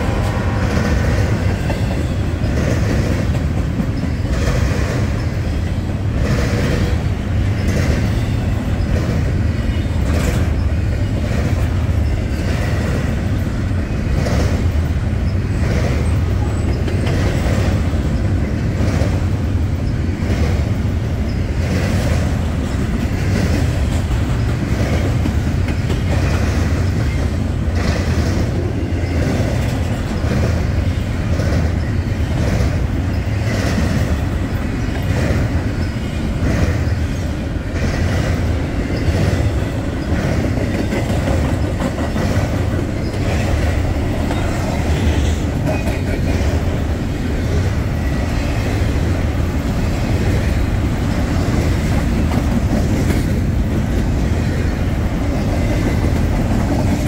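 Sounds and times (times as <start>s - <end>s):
train rumbling past: 0.0s - 57.0s
wheels clacking over rail joints: 0.0s - 57.0s.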